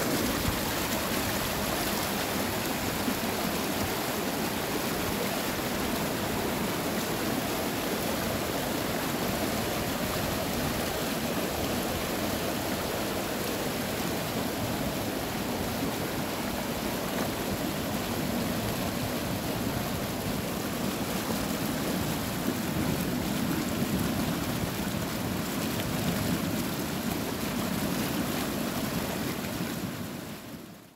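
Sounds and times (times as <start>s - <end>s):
river water rushing over rocks: 0.0s - 30.9s.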